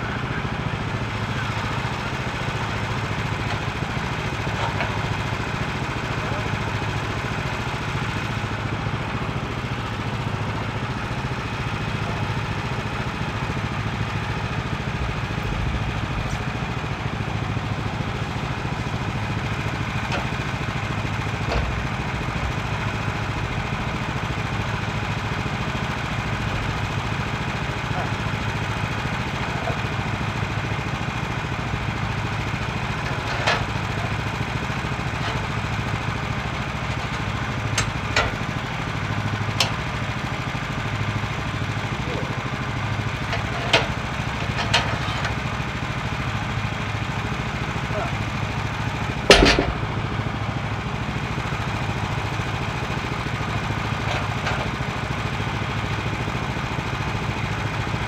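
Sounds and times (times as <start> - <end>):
small gas engine idling: 0.0 - 58.0.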